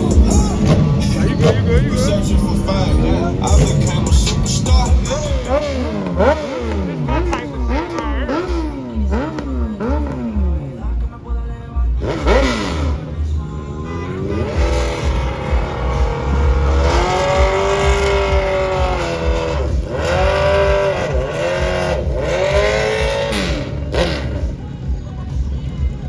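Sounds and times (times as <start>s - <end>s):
car engine revving hard: 0.0s - 11.1s, 11.9s - 24.8s
music with heavy bass beat: 0.0s - 26.0s.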